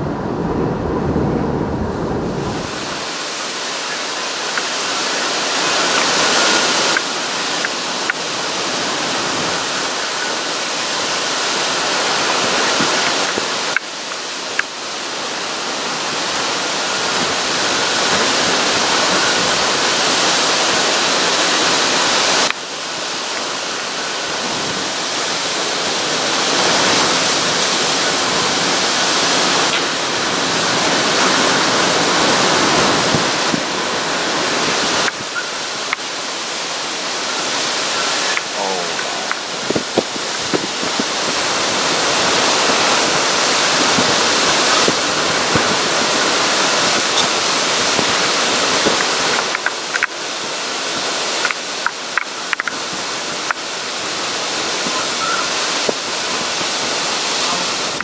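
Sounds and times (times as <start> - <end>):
driving rain: 0.0 - 58.0
hurricane wind: 0.0 - 58.0.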